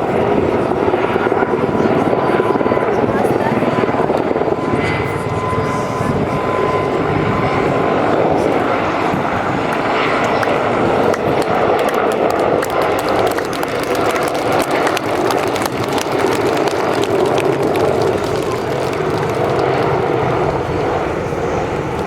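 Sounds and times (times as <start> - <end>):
helicopter engine and rotor noise: 0.0 - 22.0.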